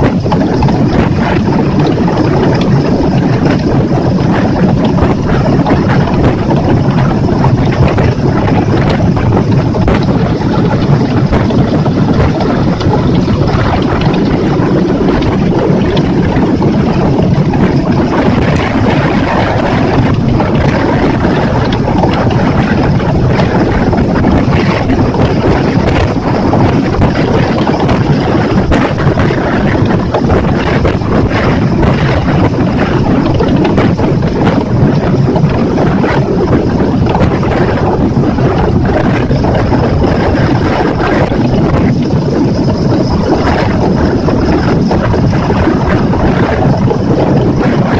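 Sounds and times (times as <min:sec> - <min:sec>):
outboard motor running: 0:00.0 - 0:47.9
wind buffeting microphone: 0:00.0 - 0:47.9.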